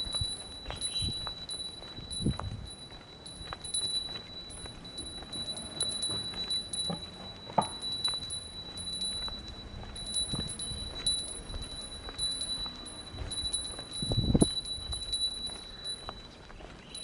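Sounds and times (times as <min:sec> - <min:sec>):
small bell ringing: 0:00.0 - 0:17.0.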